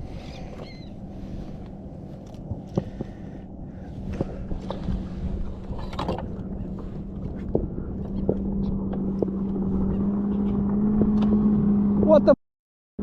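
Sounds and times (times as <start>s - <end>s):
boat motor humming: 0.0s - 12.4s
wind: 0.0s - 12.4s.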